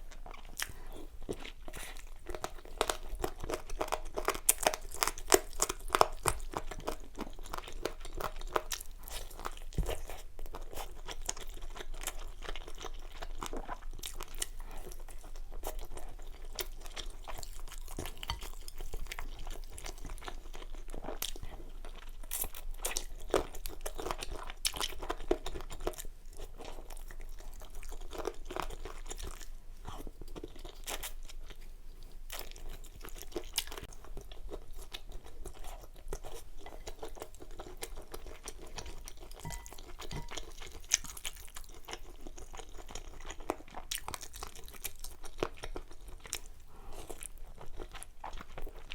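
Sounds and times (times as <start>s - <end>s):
close chewing with crunches: 0.0s - 48.9s.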